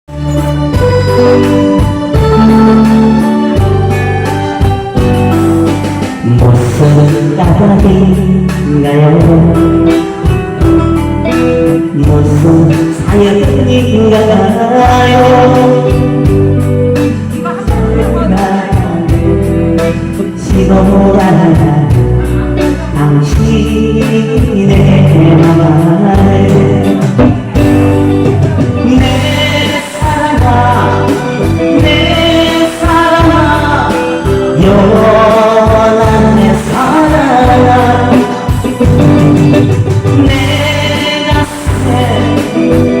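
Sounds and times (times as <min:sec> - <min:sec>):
live band pop song: 0:00.1 - 0:43.0
person singing: 0:00.1 - 0:43.0.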